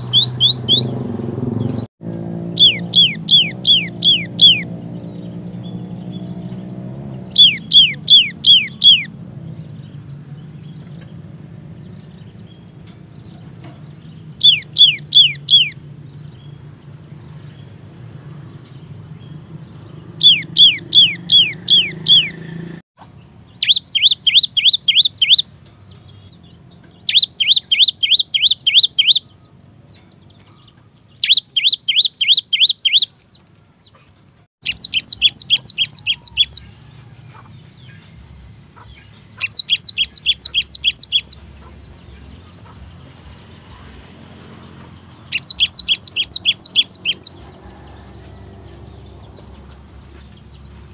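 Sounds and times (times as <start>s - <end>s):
bird singing whistled notes: 0.0s - 1.8s, 2.4s - 11.1s, 11.7s - 22.6s, 23.2s - 33.5s, 34.6s - 43.9s, 44.9s - 50.9s.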